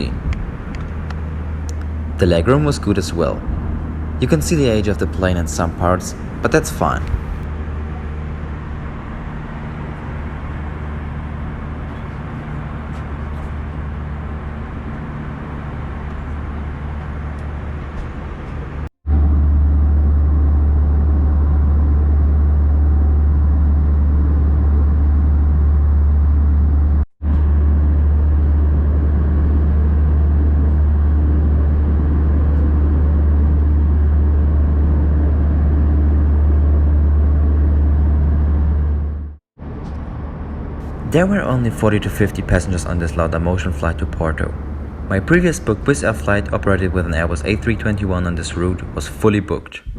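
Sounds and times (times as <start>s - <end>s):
airliner cabin noise: 0.0s - 49.9s.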